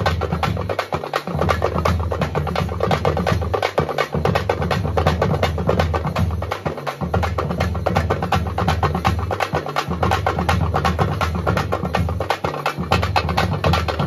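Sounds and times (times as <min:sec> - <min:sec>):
frame drums beaten with sticks: 0:00.0 - 0:14.0.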